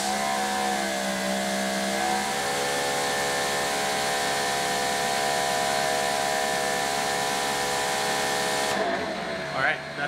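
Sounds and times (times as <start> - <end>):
pressure washer motor whine: 0.0 - 10.0.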